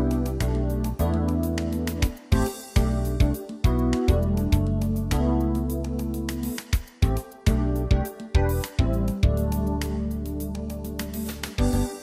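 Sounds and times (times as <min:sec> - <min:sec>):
keyboard chords: 0:00.0 - 0:12.0
strong bass: 0:00.0 - 0:12.0.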